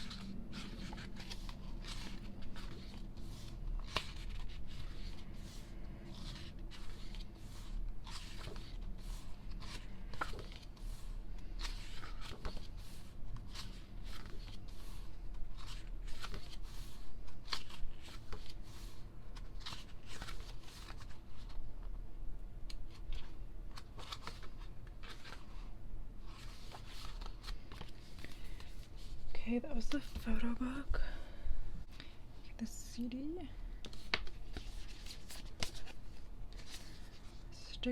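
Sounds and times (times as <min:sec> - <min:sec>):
paper pages turning: 0:00.0 - 0:21.6, 0:22.7 - 0:29.2, 0:33.8 - 0:37.4.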